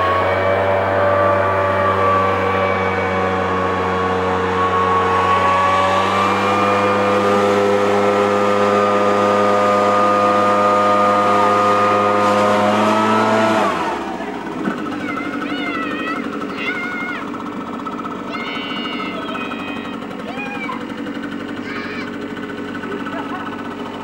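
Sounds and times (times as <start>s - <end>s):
leaf blower engine running: 0.0s - 24.0s.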